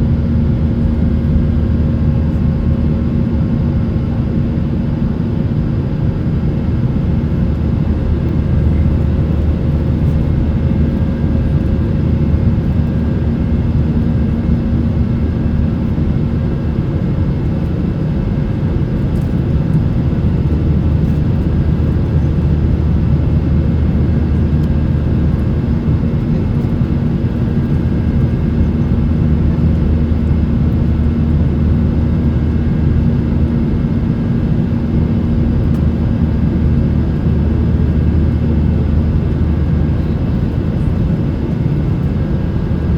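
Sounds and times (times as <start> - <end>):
jet engine cabin rumble: 0.0 - 42.9.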